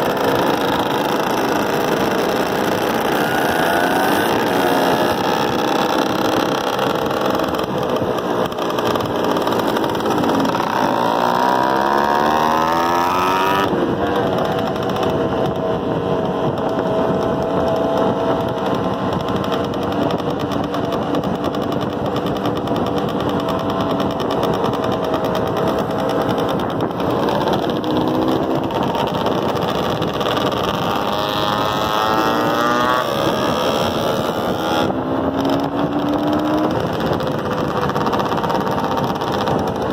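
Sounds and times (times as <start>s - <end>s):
motorcycle accelerating: 0.0s - 39.9s
motorcycle engines running: 0.0s - 39.9s.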